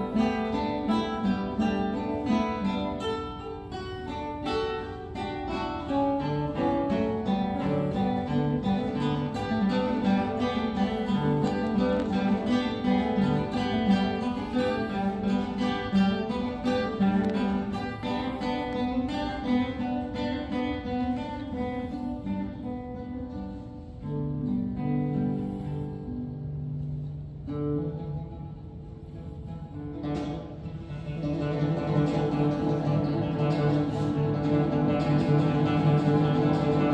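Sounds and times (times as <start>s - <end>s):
classical guitars playing: 0.0s - 36.9s.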